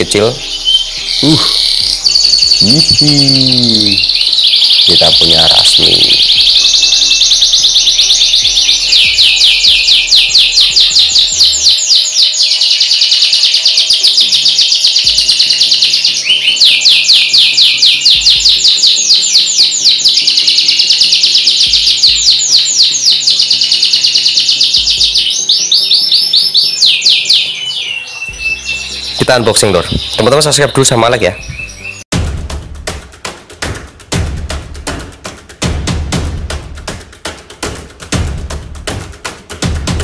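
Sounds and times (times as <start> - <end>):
canary trilling: 0.0 - 32.0
faint background music: 0.0 - 40.0.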